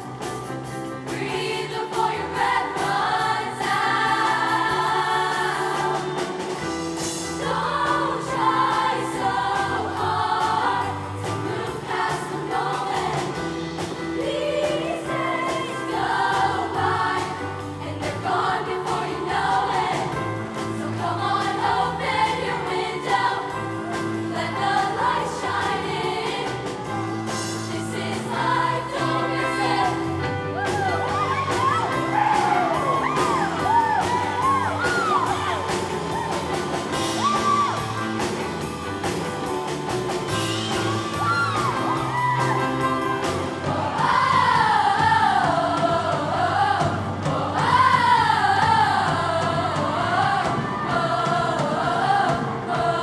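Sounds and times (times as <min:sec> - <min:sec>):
band accompaniment with steady beat: 0:00.0 - 0:53.0
choir singing: 0:00.0 - 0:53.0.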